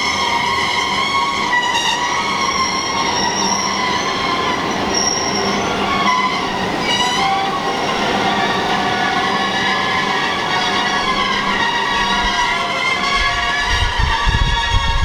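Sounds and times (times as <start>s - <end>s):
train wheels squealing: 0.0s - 15.0s.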